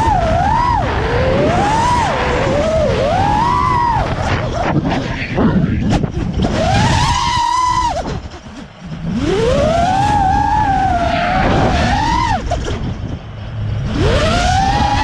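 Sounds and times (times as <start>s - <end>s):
quadcopter motors whining: 0.0s - 13.2s, 13.8s - 15.0s.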